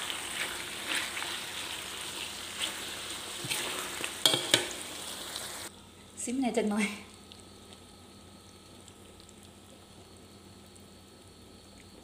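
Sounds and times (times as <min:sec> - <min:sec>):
food simmering in a wok: 0:00.0 - 0:12.0.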